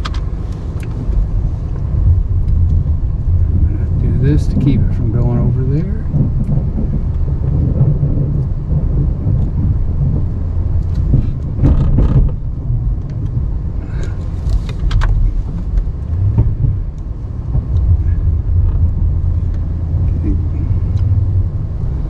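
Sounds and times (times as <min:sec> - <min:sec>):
pickup engine rumble: 0:00.0 - 0:22.0.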